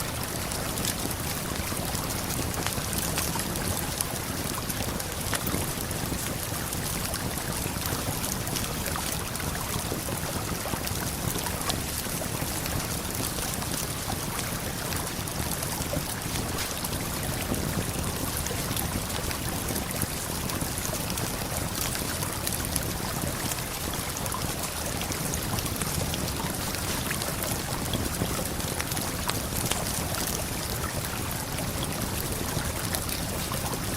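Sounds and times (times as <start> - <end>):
campfire crackling: 0.2 - 23.6, 24.2 - 33.9.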